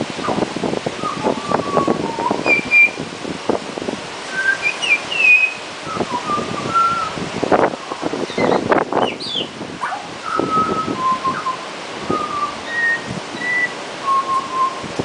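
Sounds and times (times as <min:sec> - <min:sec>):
wind gusts on microphone: 0:00.0 - 0:15.0
bird singing whistled notes: 0:00.2 - 0:00.4, 0:01.0 - 0:03.0, 0:04.3 - 0:14.9.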